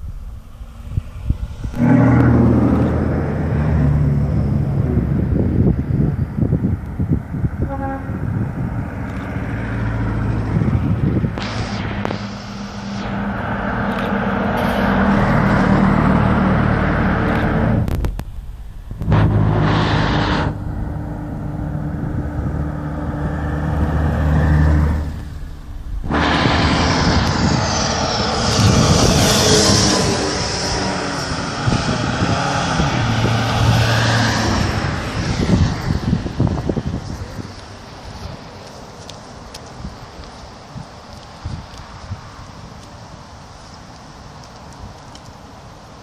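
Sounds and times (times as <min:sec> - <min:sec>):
truck diesel engines: 0:00.0 - 0:46.0.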